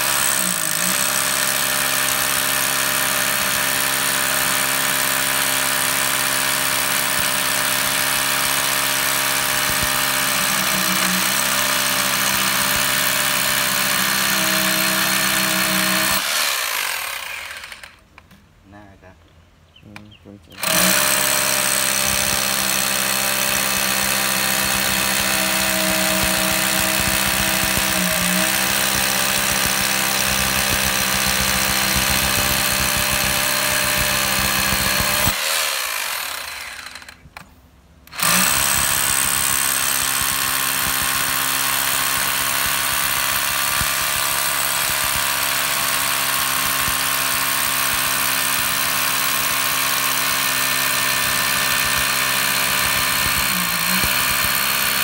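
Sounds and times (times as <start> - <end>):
drill motor winding down: 0.0 - 18.0, 20.5 - 37.4, 38.1 - 55.0
impact drill hammer-drilling concrete: 0.0 - 18.0, 20.6 - 37.5, 38.1 - 55.0.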